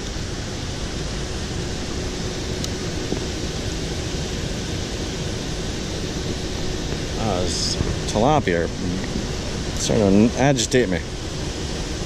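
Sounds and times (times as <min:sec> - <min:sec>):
faint steady hum: 0:00.0 - 0:12.0
rushing background noise: 0:00.0 - 0:12.0.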